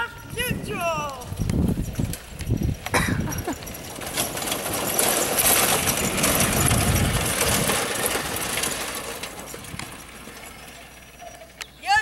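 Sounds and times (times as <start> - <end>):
garden tractor rumbling and rattling: 0.0 - 12.0.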